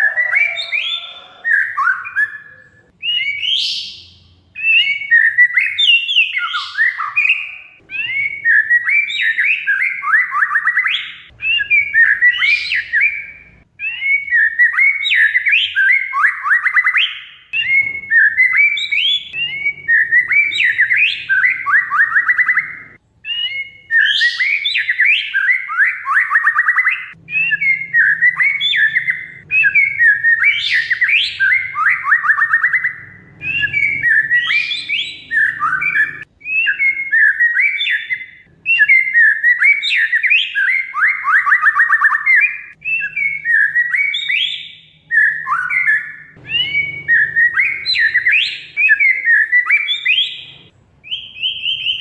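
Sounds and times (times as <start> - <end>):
songbird whistling and trilling: 0.0 - 52.0.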